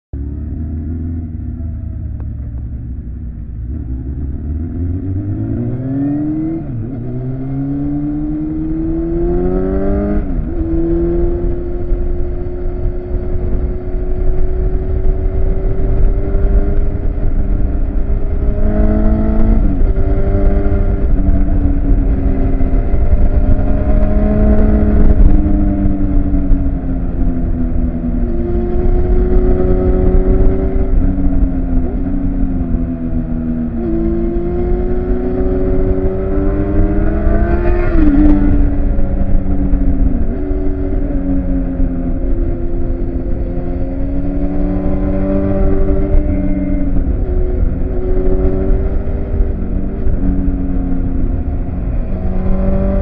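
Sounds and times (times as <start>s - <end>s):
motorcycle engine revving: 0.2s - 53.0s
wind rumble on microphone: 0.2s - 53.0s.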